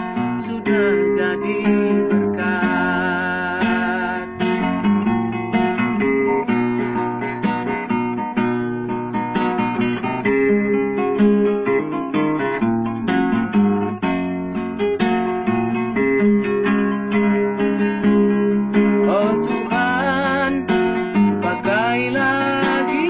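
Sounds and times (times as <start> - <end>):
acoustic guitar strummed and picked: 0.0 - 23.0.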